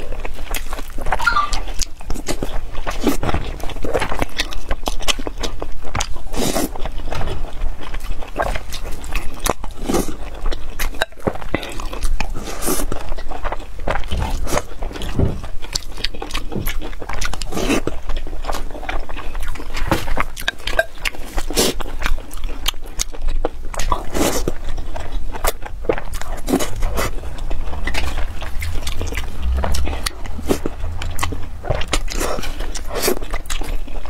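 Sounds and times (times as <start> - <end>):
chewing with mouth clicks: 0.0 - 34.0.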